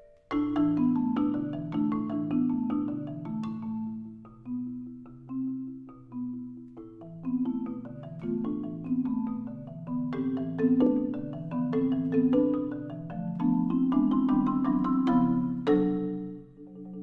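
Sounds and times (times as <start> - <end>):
marimba played with mallets: 0.0 - 17.0.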